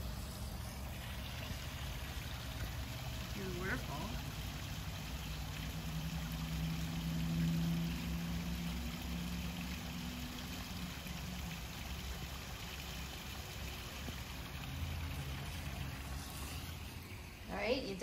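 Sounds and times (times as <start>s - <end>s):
low steady hum: 0.0s - 18.0s
waterfall splashing over rocks: 0.9s - 17.1s.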